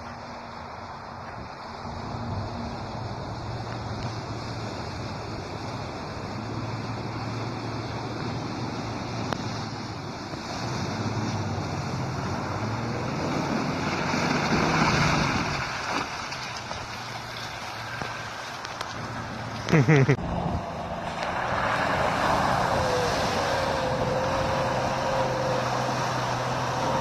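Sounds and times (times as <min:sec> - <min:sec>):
tyres on snow: 0:00.0 - 0:20.2, 0:20.8 - 0:27.0
wind: 0:00.0 - 0:27.0.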